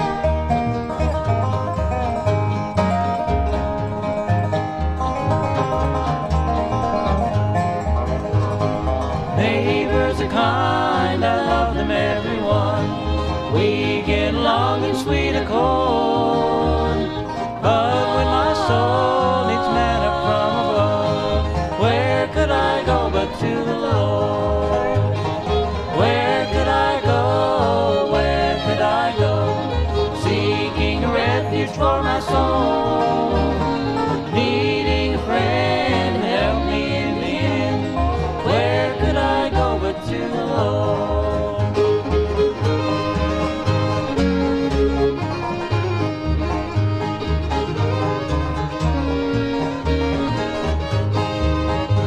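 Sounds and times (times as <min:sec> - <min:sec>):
acoustic guitar: 0:00.0 - 0:52.0
banjo: 0:00.0 - 0:52.0
sliding string lead: 0:00.0 - 0:52.0
upright bass: 0:00.0 - 0:52.0.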